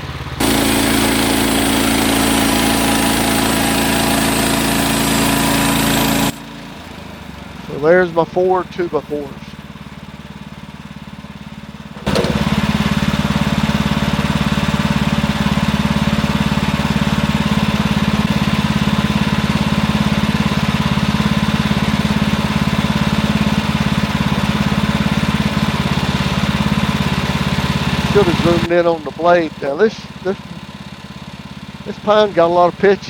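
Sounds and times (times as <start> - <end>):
sawmill gas engine revving: 0.0 - 33.0.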